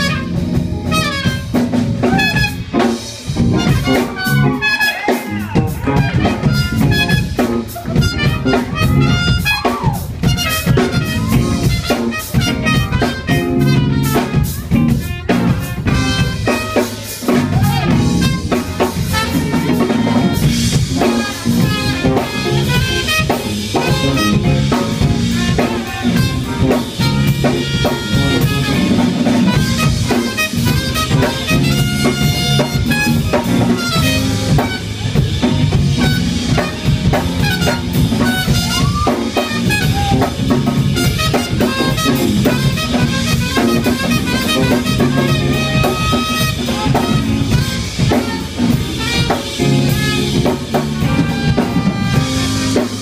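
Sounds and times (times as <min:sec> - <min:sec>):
drum kit and band accompaniment: 0:00.0 - 0:53.0
trumpet playing jazz solo: 0:00.0 - 0:53.0.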